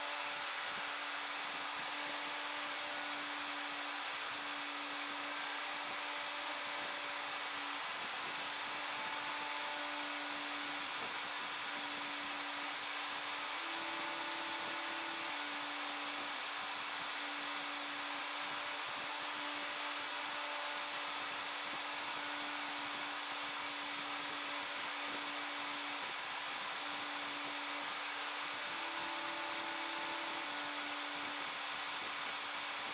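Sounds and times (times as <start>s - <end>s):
router spindle high whine: 0.0s - 32.9s.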